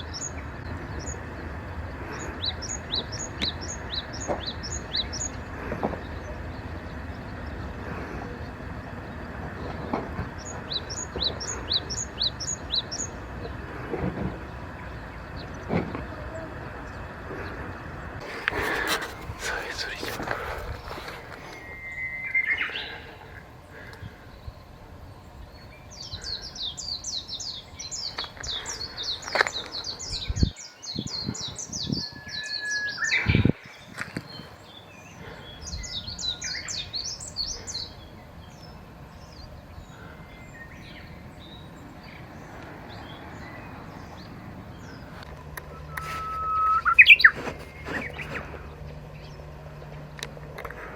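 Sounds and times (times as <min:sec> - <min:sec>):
songbirds twittering: 0:00.0 - 0:50.9.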